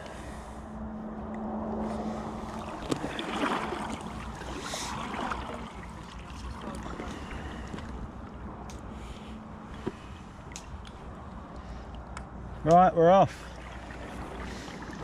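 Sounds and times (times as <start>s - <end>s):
water splashing around kayak: 1.7s - 12.1s, 12.7s - 15.0s.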